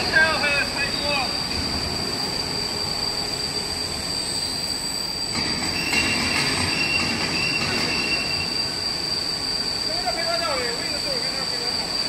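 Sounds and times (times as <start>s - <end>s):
high machine squeal: 0.0s - 12.0s.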